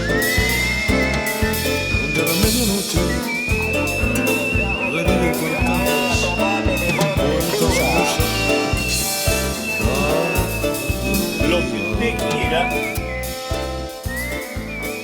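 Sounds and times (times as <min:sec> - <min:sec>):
high pure-toned sliding melody: 0:00.0 - 0:15.0
music with a steady beat: 0:00.0 - 0:15.0.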